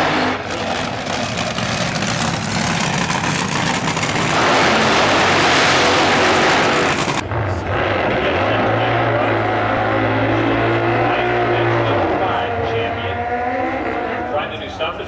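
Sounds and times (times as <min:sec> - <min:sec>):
dragster engine at high revs: 0:00.0 - 0:14.4.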